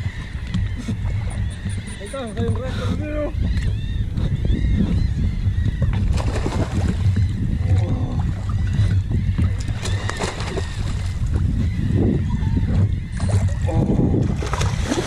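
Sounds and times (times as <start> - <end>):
water slapping boat hull: 0.0 - 15.0
wind rumbling on microphone: 0.0 - 15.0.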